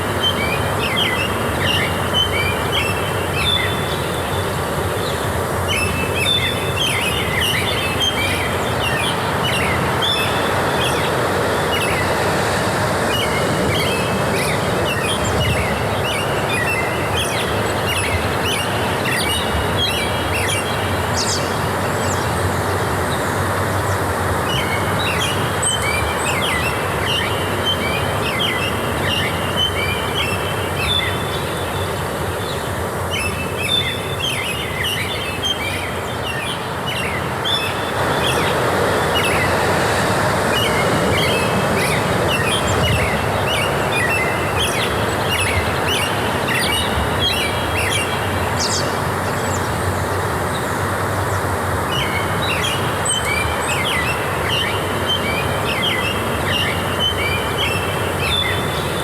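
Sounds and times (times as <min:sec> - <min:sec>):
small birds chirping: 0:00.1 - 0:59.0.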